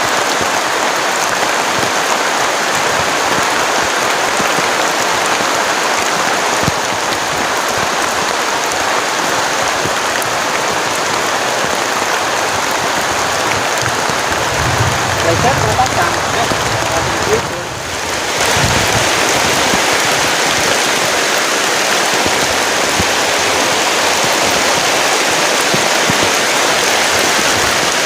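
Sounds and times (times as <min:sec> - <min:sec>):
heavy rain pouring: 0:00.0 - 0:28.0
raindrops ticking: 0:00.3 - 0:28.0.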